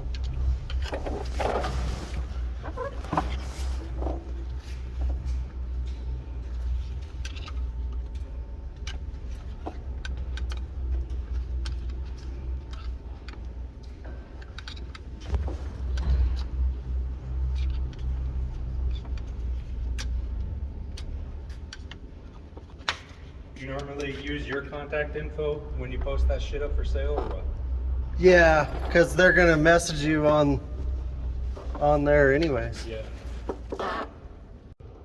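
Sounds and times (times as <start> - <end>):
low engine rumble: 0.0 - 34.8.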